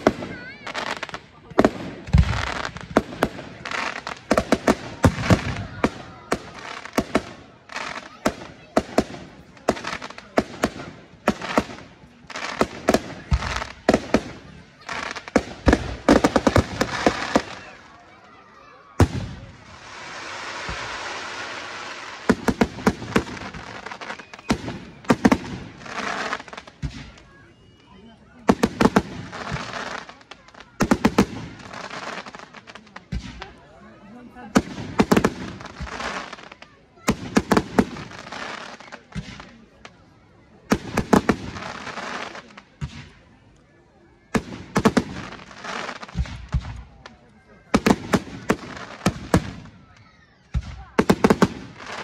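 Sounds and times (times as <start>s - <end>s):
firework crackling hiss: 0.0s - 27.4s, 28.5s - 33.6s, 34.5s - 39.9s, 40.7s - 43.2s, 44.3s - 49.9s, 50.5s - 52.0s
firework bangs: 0.0s - 33.6s, 34.4s - 39.9s, 40.6s - 43.4s, 44.3s - 52.0s.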